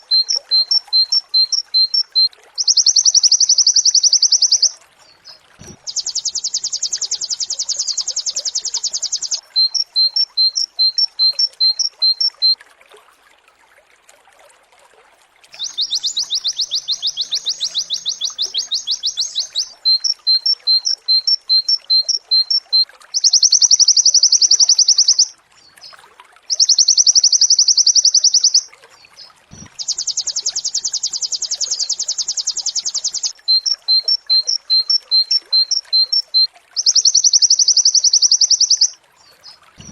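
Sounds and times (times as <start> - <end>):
bird fast trills: 0.0 - 12.6, 15.6 - 25.3, 26.5 - 39.0
bird short chirps: 0.0 - 12.6, 15.6 - 25.3, 26.5 - 28.7, 29.5 - 38.9.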